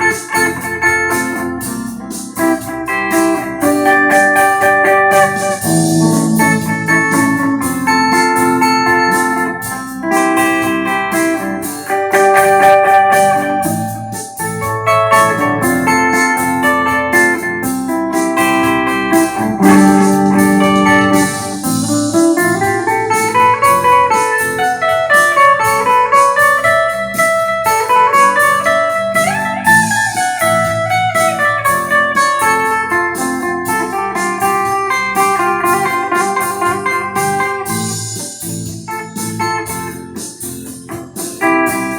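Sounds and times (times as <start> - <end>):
clean electric guitar: 0.0 - 41.9.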